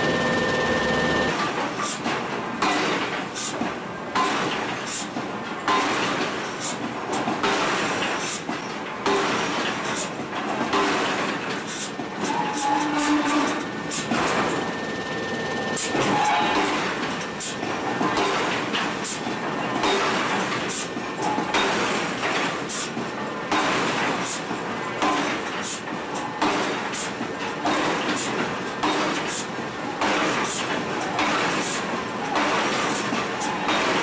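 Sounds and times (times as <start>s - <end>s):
workshop noise: 0.0s - 34.0s.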